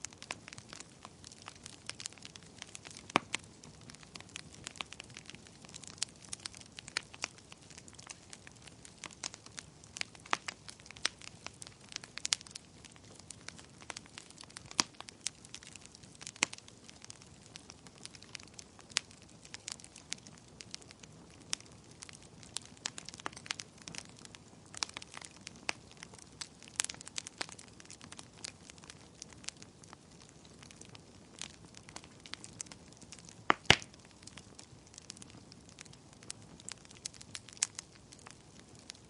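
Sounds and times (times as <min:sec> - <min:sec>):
bonfire crackling and popping: 0:00.0 - 0:39.0
low fire hiss: 0:00.0 - 0:39.0.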